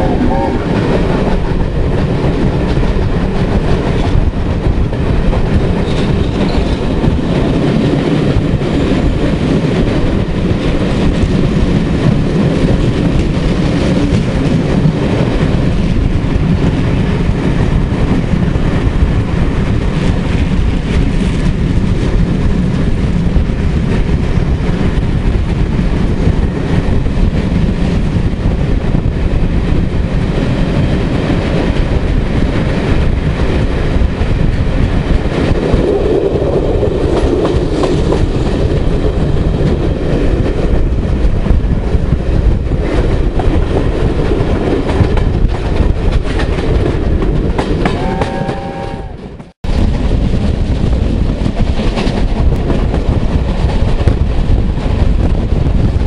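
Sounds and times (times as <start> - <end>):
train running noise: 0.0 - 56.0.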